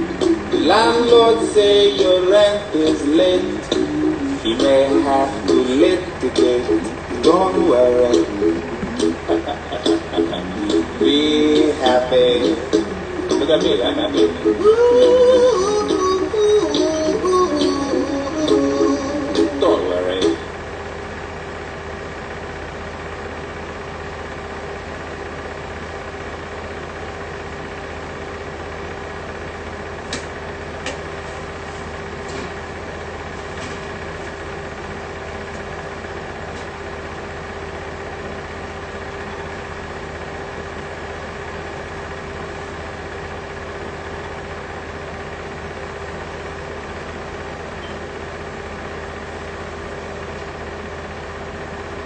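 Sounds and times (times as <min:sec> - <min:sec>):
mechanical hum with held tone: 0:00.0 - 0:52.0.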